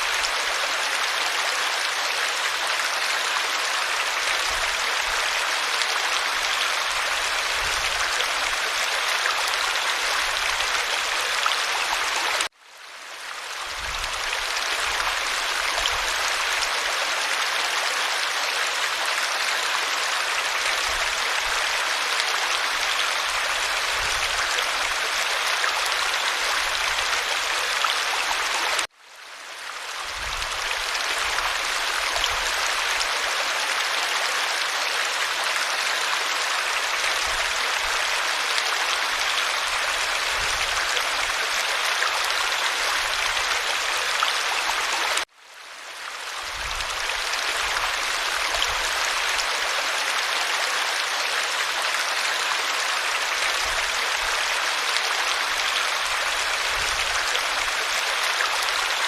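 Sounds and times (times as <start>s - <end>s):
stream rushing and babbling: 0.0s - 59.0s.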